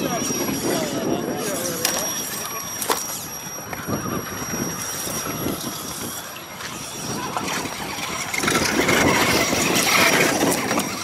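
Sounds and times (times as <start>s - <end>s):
rc crawler motor and drivetrain: 0.0s - 11.0s.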